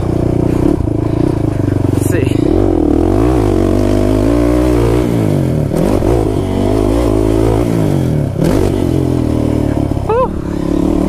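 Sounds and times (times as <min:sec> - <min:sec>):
quad engine revving: 0:00.0 - 0:11.0.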